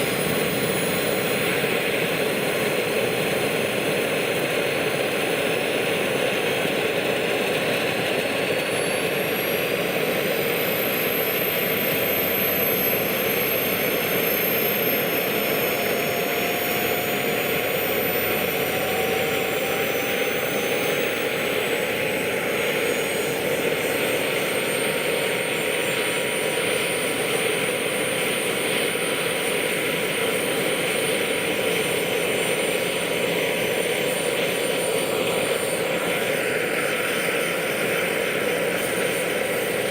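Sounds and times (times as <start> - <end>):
rotor and turbine rush: 0.0 - 39.9
turbine engine whine: 0.0 - 39.9.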